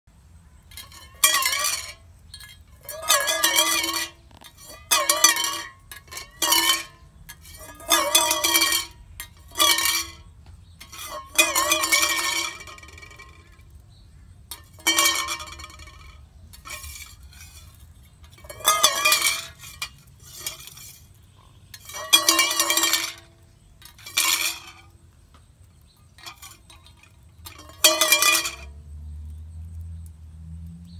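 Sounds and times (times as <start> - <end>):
metal bowl scraping on concrete: 0.4 - 29.8
metallic ringing: 0.6 - 13.6, 14.5 - 24.9, 26.2 - 28.8.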